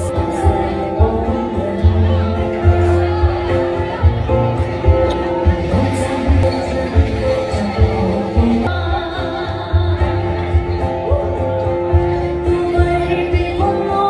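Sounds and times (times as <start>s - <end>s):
singing over a bass beat: 0.0s - 14.0s.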